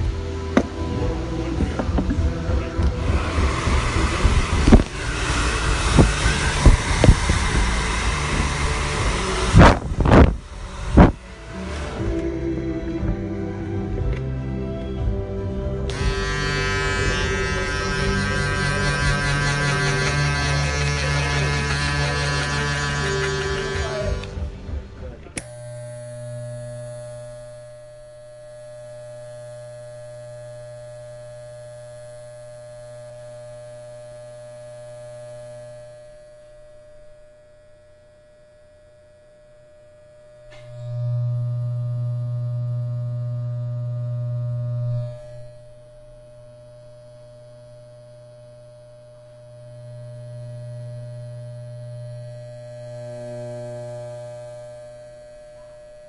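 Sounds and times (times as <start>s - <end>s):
electric hair clippers buzzing: 0.0s - 13.2s, 15.8s - 56.0s.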